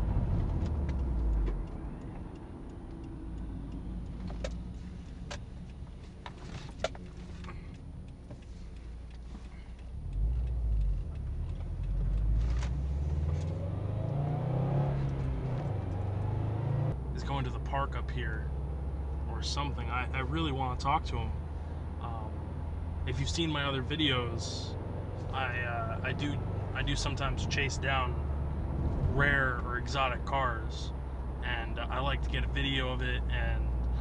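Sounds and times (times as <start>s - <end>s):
car engine from inside cabin: 0.0s - 34.0s
road noise: 0.0s - 34.0s.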